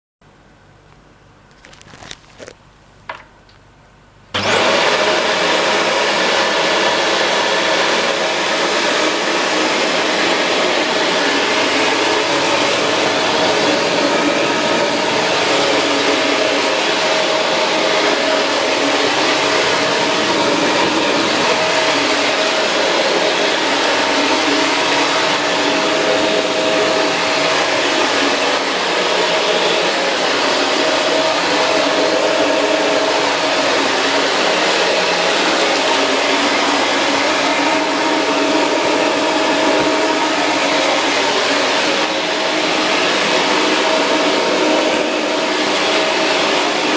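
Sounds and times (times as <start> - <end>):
vacuum cleaner motor whine: 4.3 - 46.9.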